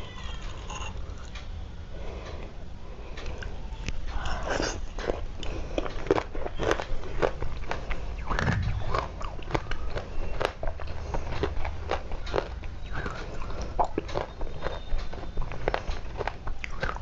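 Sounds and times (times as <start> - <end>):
clay being chewed: 3.2 - 17.0.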